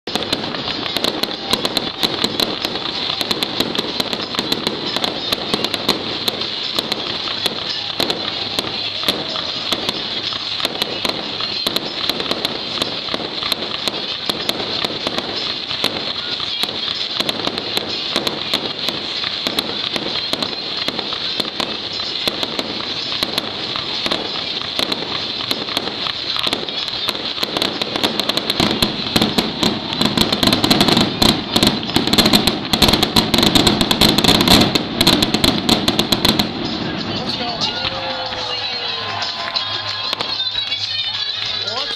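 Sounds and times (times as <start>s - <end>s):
aerial fireworks popping and banging: 0.0s - 41.9s.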